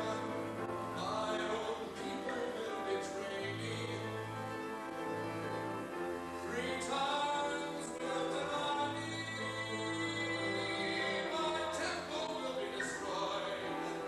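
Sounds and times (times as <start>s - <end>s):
man singing: 0.0s - 5.6s, 6.4s - 14.0s
instrumental accompaniment: 0.0s - 14.0s.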